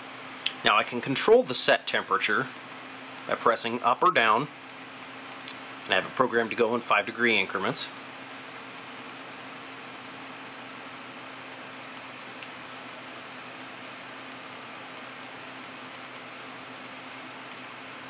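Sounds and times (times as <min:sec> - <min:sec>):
steady hiss with faint hum: 0:00.0 - 0:18.0.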